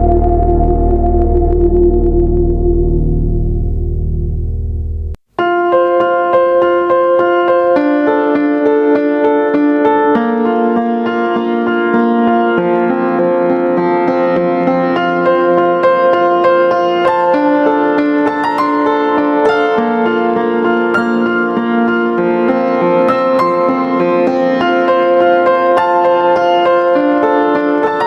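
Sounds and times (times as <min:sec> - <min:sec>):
gentle keyboard chords: 0:05.4 - 0:28.0.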